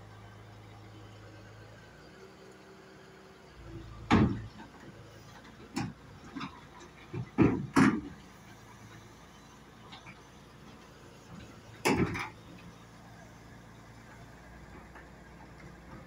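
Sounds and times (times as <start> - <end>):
diesel engine running low: 0.0 - 16.0.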